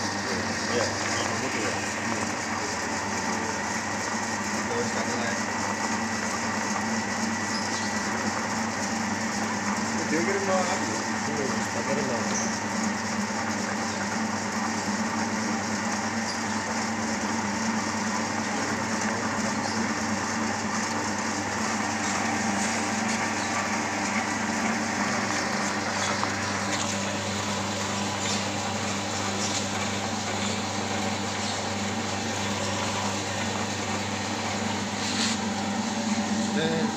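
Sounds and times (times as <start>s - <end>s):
pellet press humming: 0.0s - 36.9s.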